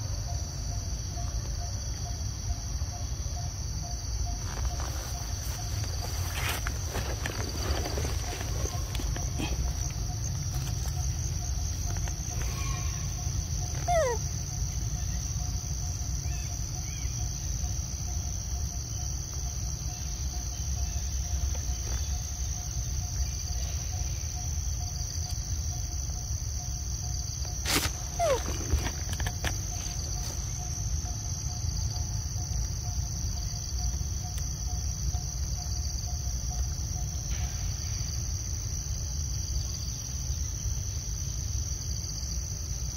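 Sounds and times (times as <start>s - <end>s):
insect chorus trilling: 0.0s - 42.9s.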